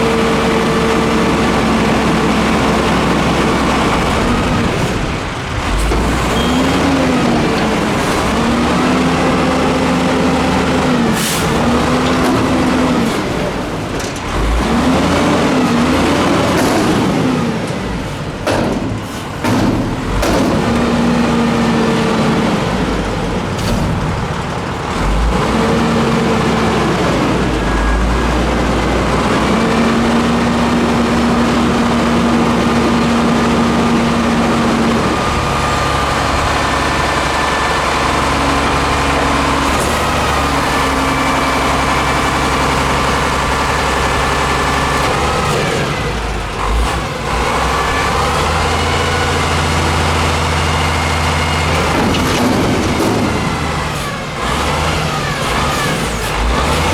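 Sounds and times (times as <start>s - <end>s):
garbage truck diesel engine: 0.0s - 56.9s.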